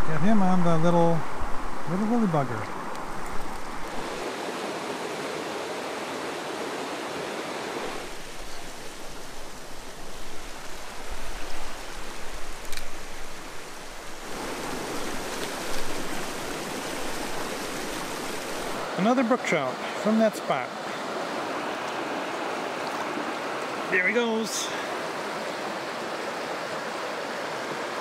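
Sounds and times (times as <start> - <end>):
creek water rushing over rapids: 0.0 - 28.0.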